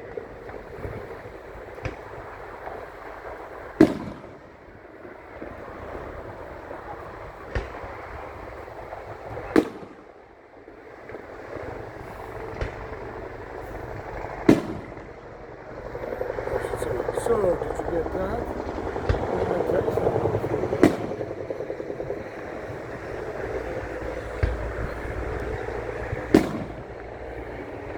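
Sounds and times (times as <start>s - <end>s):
steady low background noise: 0.0s - 27.9s
fireworks bursting bangs: 1.7s - 5.9s, 6.8s - 10.3s, 11.1s - 15.2s, 16.6s - 27.9s.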